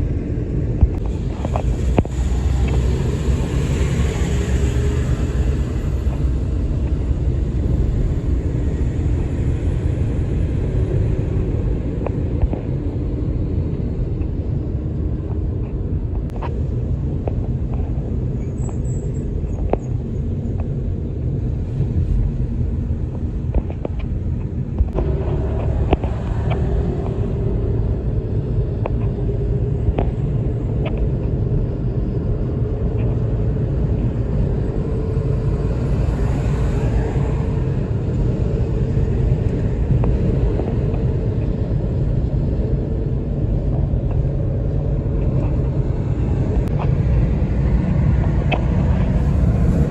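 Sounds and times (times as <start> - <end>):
highway traffic rumble: 0.0 - 49.9.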